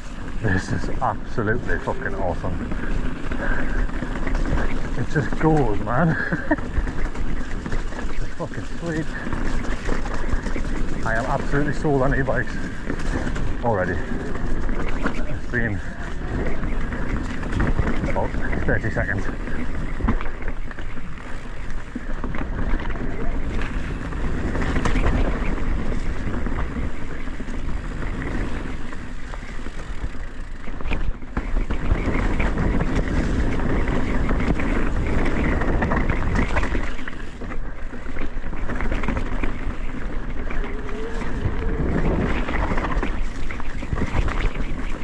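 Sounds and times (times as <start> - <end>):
bike tyres rolling on trail: 0.0 - 45.0
wind buffeting microphone: 0.0 - 45.0.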